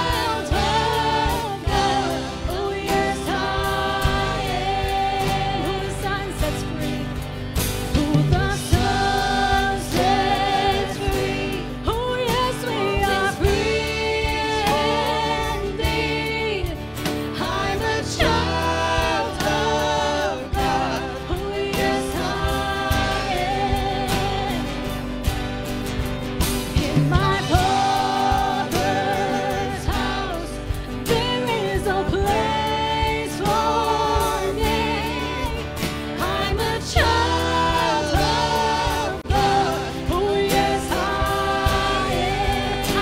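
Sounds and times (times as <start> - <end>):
woman singing: 0.0 - 7.2, 7.9 - 25.0, 26.8 - 43.0
acoustic guitar: 0.0 - 43.0
electric bass: 0.0 - 43.0.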